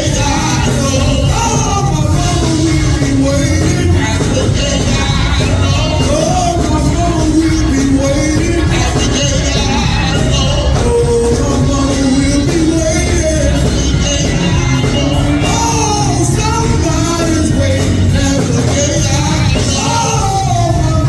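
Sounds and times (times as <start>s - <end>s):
bass and drum beat: 0.0s - 21.0s
gospel singing over a band: 0.0s - 21.0s.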